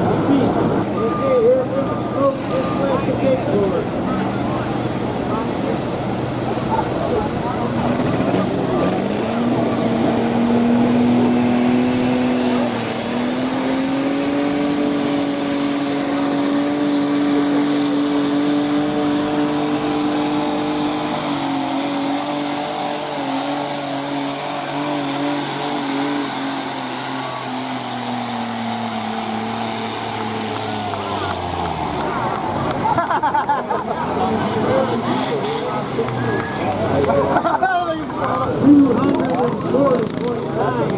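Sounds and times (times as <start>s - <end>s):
tractor engine running hard: 0.0s - 40.9s.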